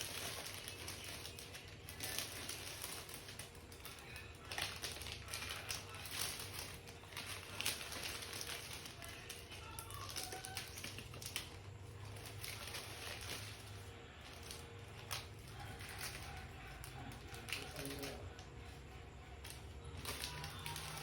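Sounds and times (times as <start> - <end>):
plastic packets crinkling: 0.0 - 21.0.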